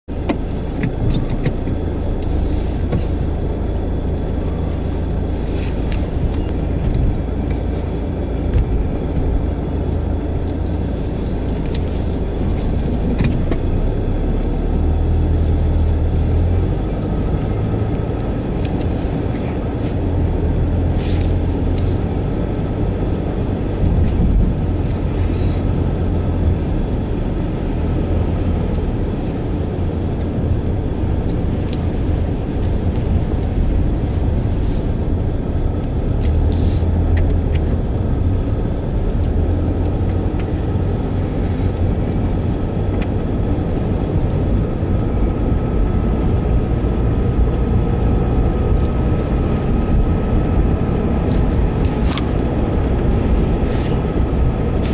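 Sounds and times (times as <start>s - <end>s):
car driving rumble: 0.0s - 54.9s.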